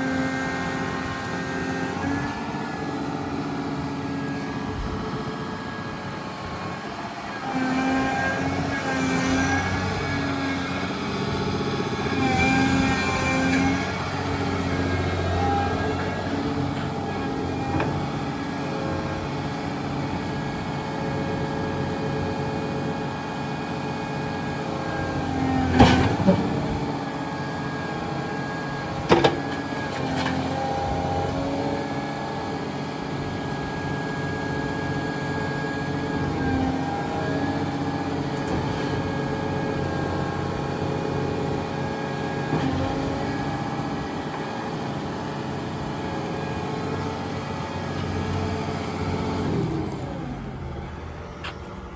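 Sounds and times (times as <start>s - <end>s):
excavator diesel engine running: 0.0s - 51.9s
hydraulic whining tones: 0.5s - 51.8s.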